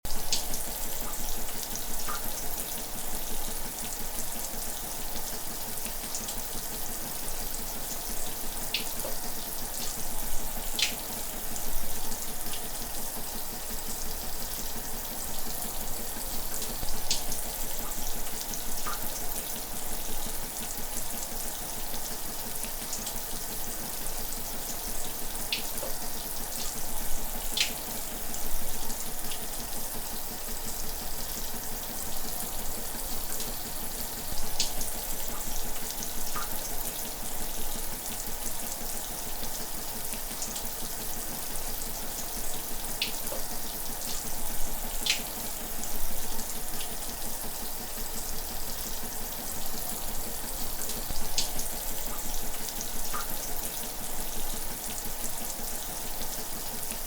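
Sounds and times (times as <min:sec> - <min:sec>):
shower water running: 0:00.1 - 0:57.0.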